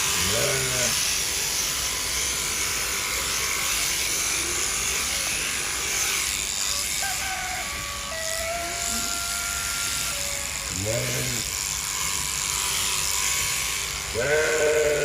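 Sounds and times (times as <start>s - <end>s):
electric clippers buzzing: 0.0s - 15.0s.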